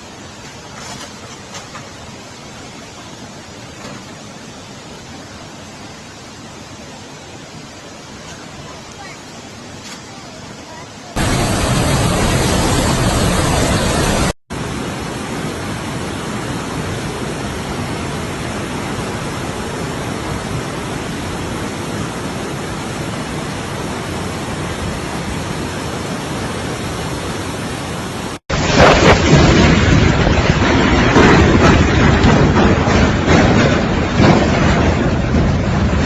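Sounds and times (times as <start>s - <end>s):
rushing storm noise: 0.0s - 36.0s.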